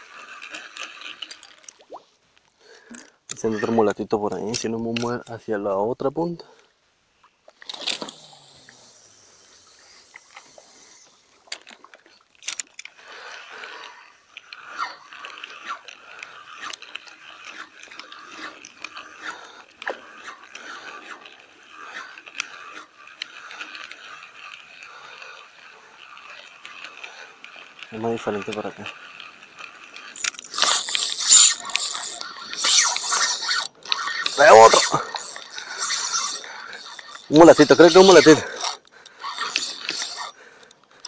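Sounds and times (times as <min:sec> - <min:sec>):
fishing reel clicking: 0:00.0 - 0:02.0, 0:02.9 - 0:05.4, 0:07.6 - 0:41.0.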